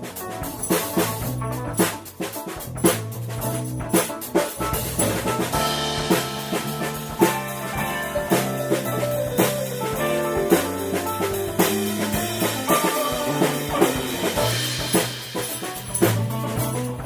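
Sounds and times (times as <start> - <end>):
bass guitar: 0.0 - 17.0
drum kit beat: 0.0 - 17.0
electric guitar: 0.0 - 17.0
keyboards: 0.0 - 17.0.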